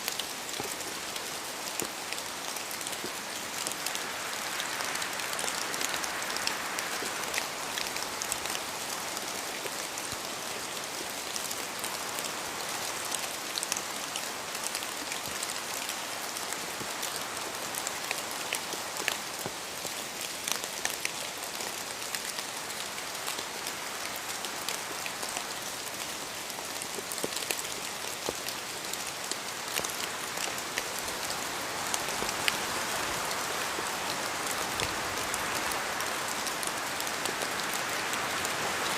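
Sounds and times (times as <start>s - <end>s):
rain falling in a forest: 0.0s - 38.9s.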